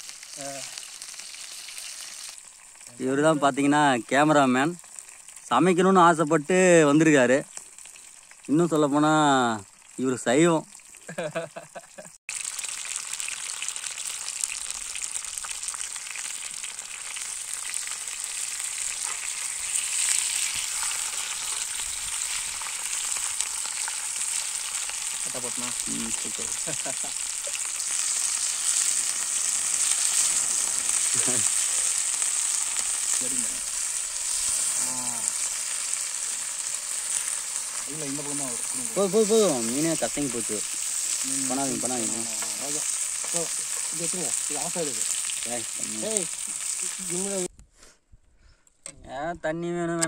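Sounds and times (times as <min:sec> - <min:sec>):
fish sizzling in a pan: 0:00.0 - 0:47.5.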